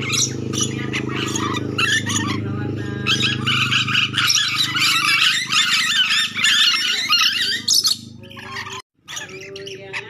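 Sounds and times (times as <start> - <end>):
lorikeets chattering: 0.0 - 10.0
steady low hum: 0.0 - 10.0.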